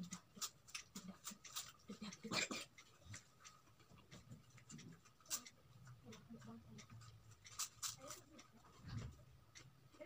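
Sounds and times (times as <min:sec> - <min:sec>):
chewing and mouth noises: 0:00.0 - 0:08.8.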